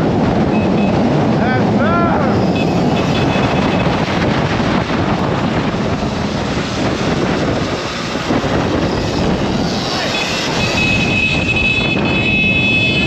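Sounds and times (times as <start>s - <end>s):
road and traffic noise: 0.0s - 13.0s
wind rushing over microphone: 0.0s - 13.0s.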